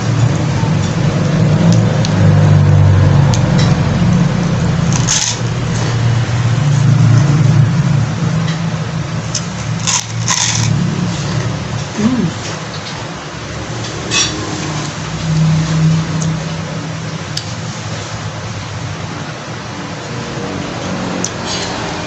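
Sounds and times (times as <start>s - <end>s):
low rumbling hum: 0.0s - 20.8s.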